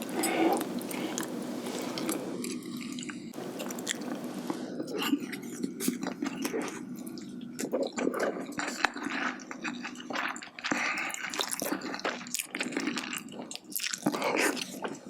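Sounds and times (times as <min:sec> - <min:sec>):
squishy wet chewing: 0:00.0 - 0:15.0.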